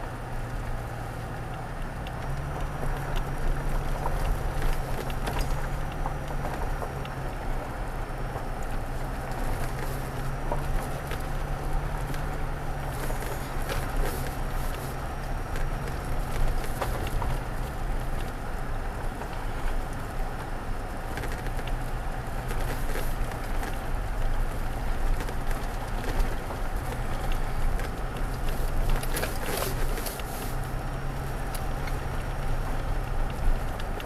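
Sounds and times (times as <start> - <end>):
engine and drivetrain hum: 0.0 - 34.0
tyre noise on dirt road: 0.0 - 34.0
gravel clicks: 0.1 - 34.0.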